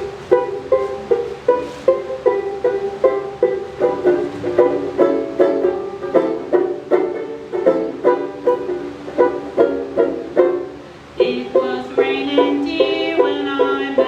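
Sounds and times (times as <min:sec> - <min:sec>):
ukulele strumming chords: 0:00.0 - 0:14.0.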